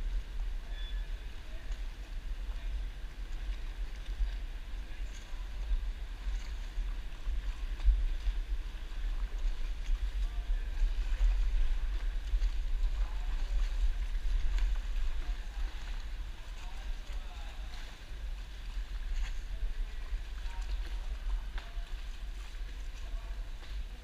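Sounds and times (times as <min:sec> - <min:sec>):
faint canal water: 0:00.0 - 0:24.0
wind buffeting microphone: 0:00.0 - 0:24.0.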